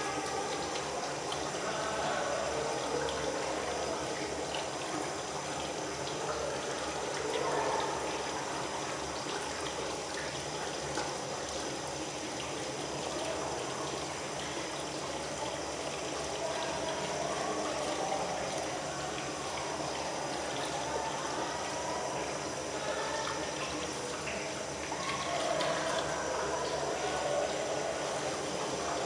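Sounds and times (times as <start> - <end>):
tap water running: 0.0 - 29.0.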